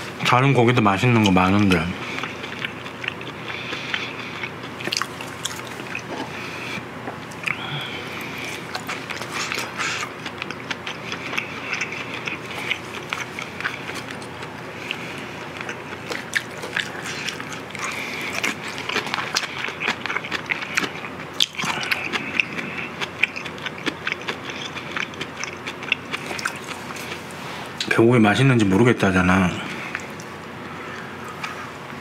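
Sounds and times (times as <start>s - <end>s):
person chewing food: 1.2s - 27.9s, 29.8s - 31.7s.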